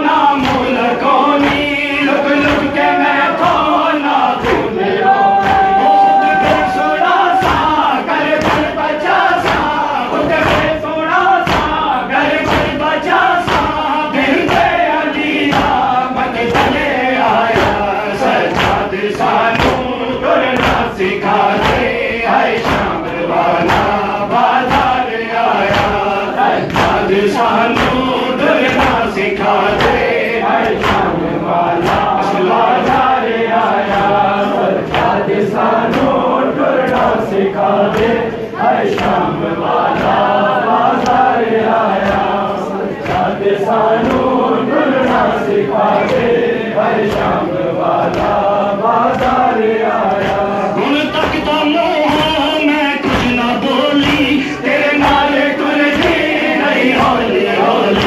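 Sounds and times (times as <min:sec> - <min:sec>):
lead reciter: 0:00.0 - 0:58.0
men chanting in unison: 0:00.0 - 0:58.0
rhythmic chest-beating slaps: 0:00.0 - 0:58.0.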